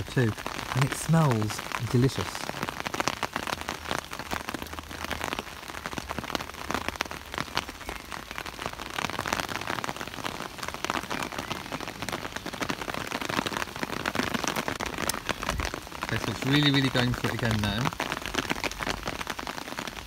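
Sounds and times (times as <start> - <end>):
rain on an umbrella: 0.0 - 20.0.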